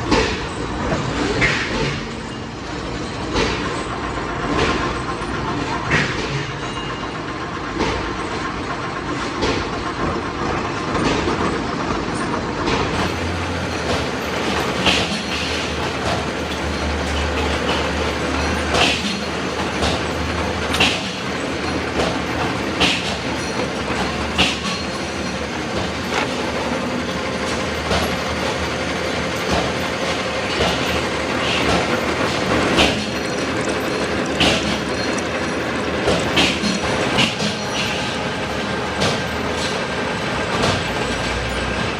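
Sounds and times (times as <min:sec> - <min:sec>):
machinery steady clatter: 0:00.0 - 0:41.9.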